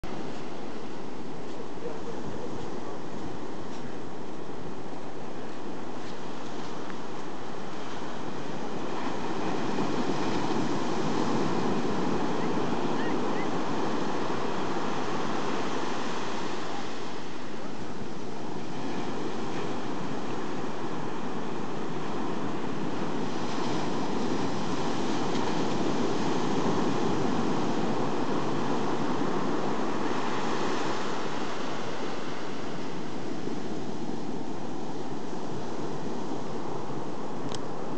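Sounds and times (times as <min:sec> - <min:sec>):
waves breaking on a beach: 0:00.0 - 0:37.9.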